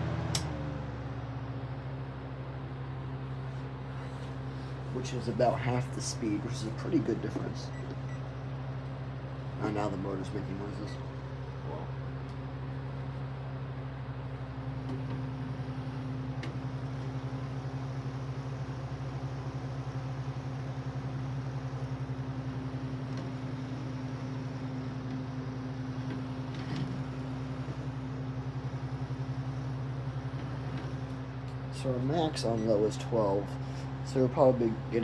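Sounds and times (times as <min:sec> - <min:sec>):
desk fan motor humming: 0:00.0 - 0:35.0.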